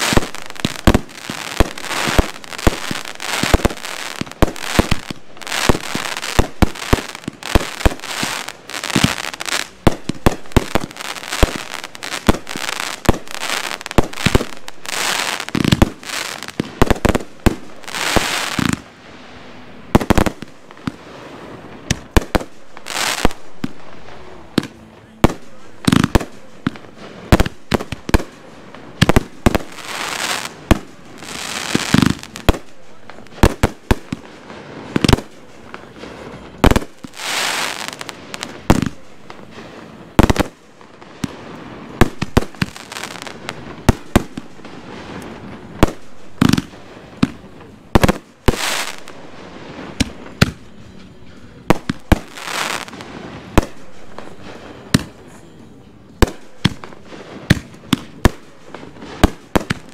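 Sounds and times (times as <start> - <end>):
fireworks bangs: 0.0 - 59.9
hissing crackle of fireworks: 0.0 - 59.9.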